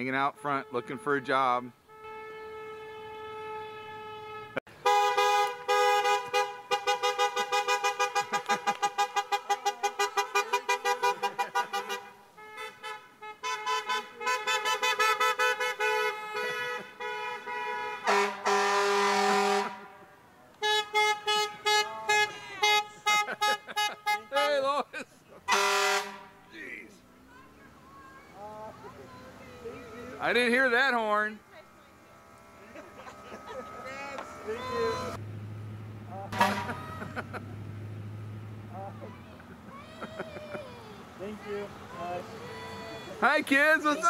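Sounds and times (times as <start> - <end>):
car horns honking: 0.0 - 44.0
cars driving slowly past: 1.5 - 44.0.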